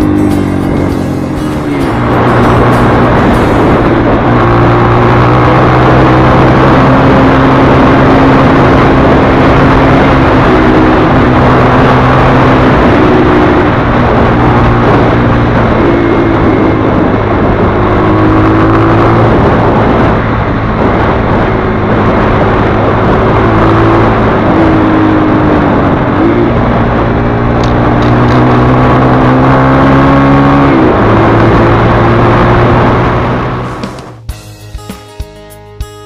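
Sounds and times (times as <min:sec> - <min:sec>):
motorcycle engine running: 0:00.0 - 0:29.8, 0:30.6 - 0:36.0
wind and road rush: 0:00.0 - 0:34.6.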